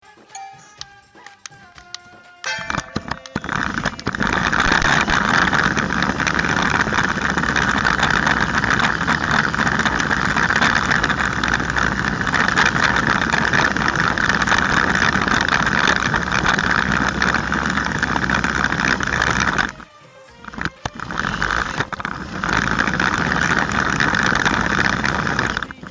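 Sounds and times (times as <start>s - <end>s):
toy car motor whirring: 0.7s - 25.9s.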